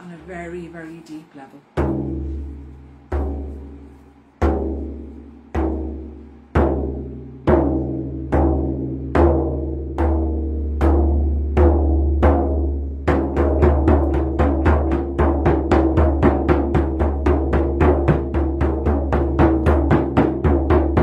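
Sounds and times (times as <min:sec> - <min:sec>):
deep ringing drum strikes: 0:01.8 - 0:03.8, 0:04.4 - 0:21.0.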